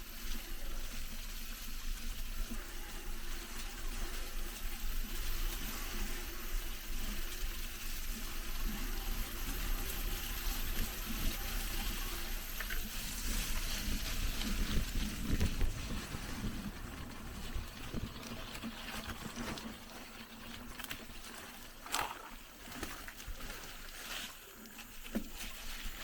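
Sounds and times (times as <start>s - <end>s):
constant low rumble: 0.0s - 26.0s
flowing water rushing: 0.0s - 26.0s.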